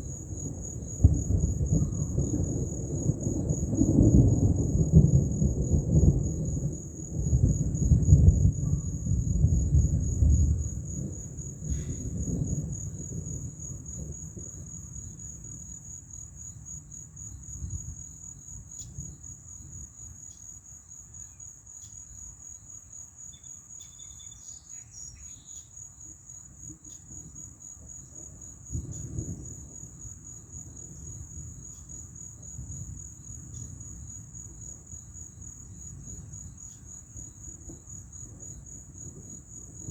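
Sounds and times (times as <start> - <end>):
thunder rumbling: 0.0 - 20.0, 26.6 - 39.9
night insects chorus: 0.0 - 39.9.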